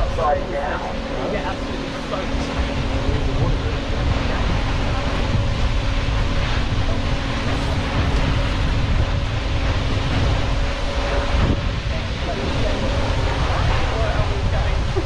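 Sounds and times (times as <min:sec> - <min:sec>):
boat engine humming: 0:00.0 - 0:15.0
wind buffeting microphone: 0:00.0 - 0:15.0.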